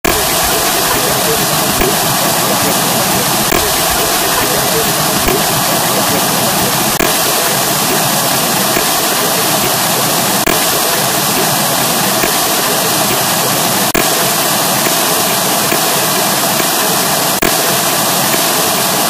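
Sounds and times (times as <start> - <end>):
loud static rushing noise: 0.0 - 19.0.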